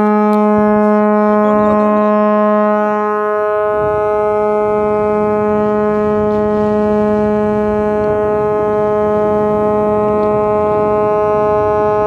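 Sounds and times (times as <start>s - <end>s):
ship horn long blast: 0.0s - 12.0s.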